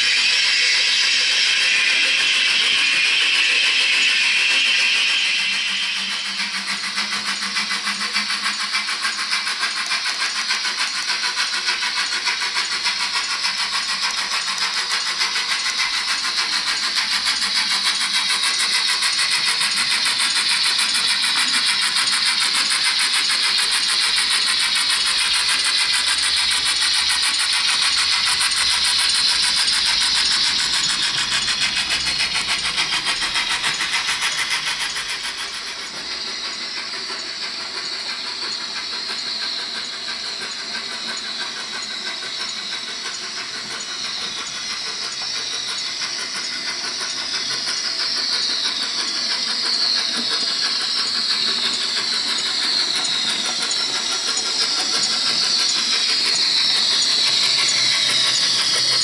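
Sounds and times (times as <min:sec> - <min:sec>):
steam exhaust beats from small speaker: 0:00.0 - 0:59.0.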